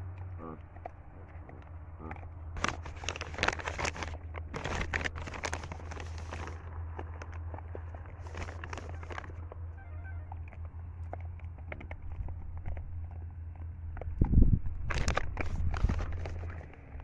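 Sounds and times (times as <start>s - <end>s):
dense crackling and crinkling: 0.0s - 17.0s.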